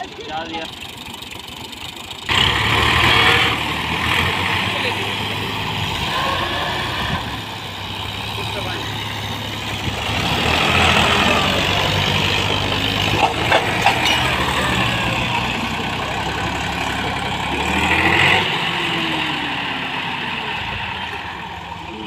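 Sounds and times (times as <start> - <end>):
tractor diesel engines under load: 0.0 - 22.0.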